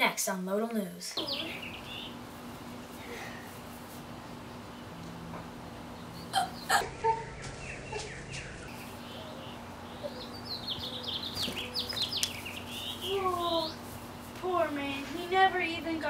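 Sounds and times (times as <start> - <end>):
birds chirping: 1.2 - 15.9.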